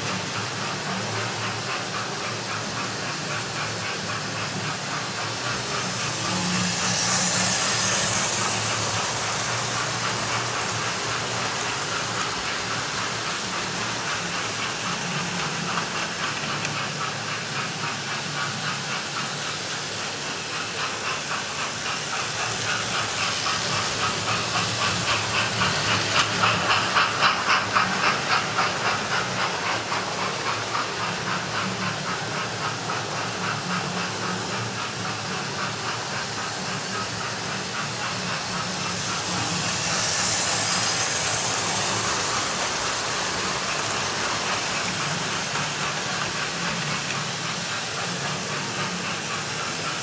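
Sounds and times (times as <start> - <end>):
model train running noise: 0.0 - 50.0
steam locomotive hiss effect: 0.0 - 50.0.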